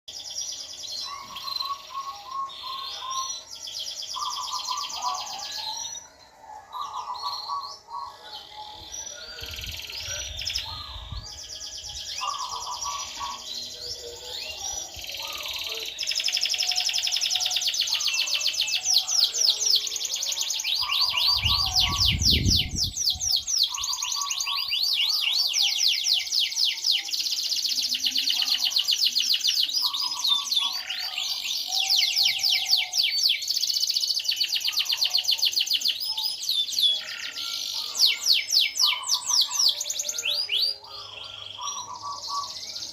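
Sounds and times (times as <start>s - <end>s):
canary singing trills: 0.1s - 42.9s.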